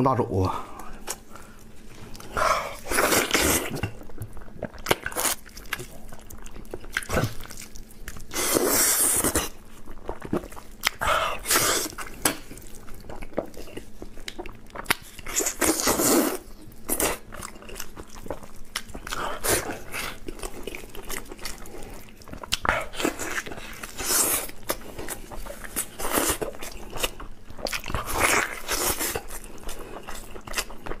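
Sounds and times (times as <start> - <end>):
wet chewing and smacking: 0.8 - 31.0.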